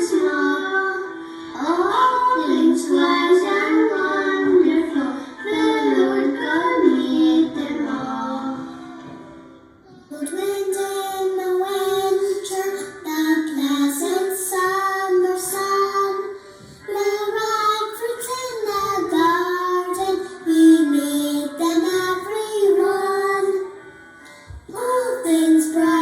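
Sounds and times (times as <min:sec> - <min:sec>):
children singing: 0:00.0 - 0:09.2, 0:09.9 - 0:23.8, 0:24.7 - 0:26.0.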